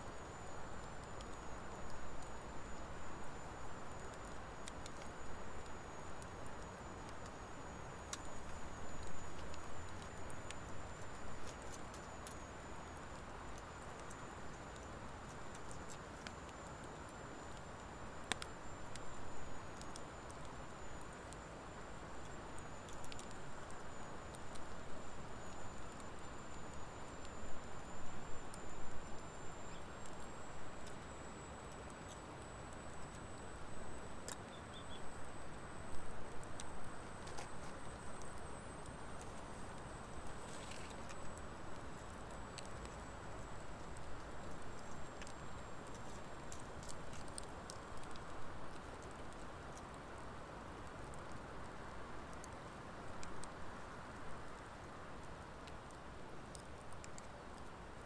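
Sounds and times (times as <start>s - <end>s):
wood fire crackling and popping: 0.1s - 58.0s.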